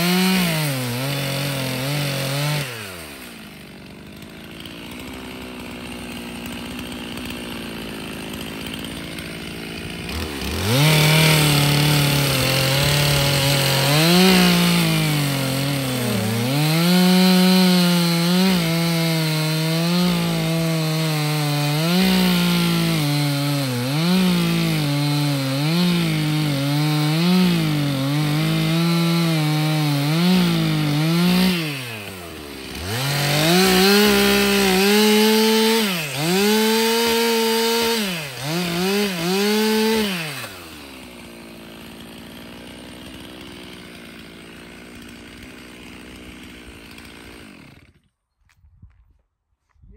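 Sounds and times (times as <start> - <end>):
chainsaw cutting boards: 0.0 - 48.6.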